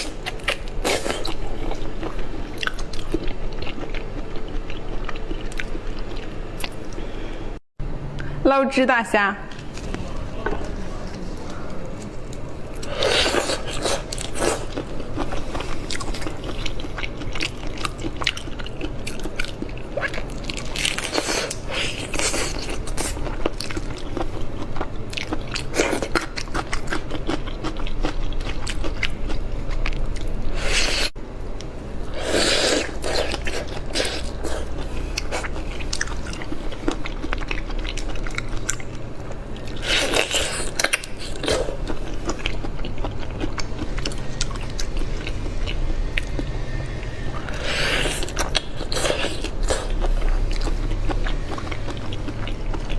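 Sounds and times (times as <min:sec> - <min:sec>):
crunching and wet chewing: 0:00.0 - 0:07.0, 0:11.1 - 0:31.2, 0:32.0 - 0:46.5, 0:47.4 - 0:52.9.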